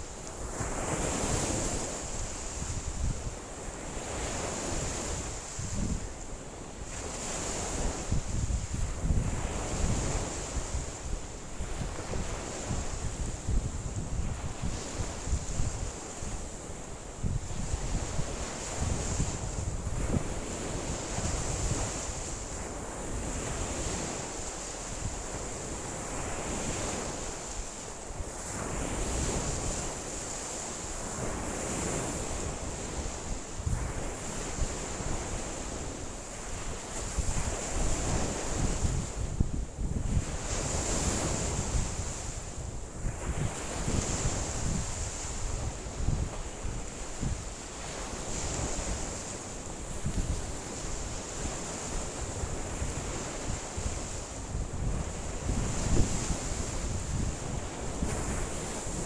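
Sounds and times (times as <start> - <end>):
wind buffeting microphone: 0.0 - 6.2, 6.9 - 24.2, 30.9 - 59.0
waves breaking on shore: 0.0 - 59.0.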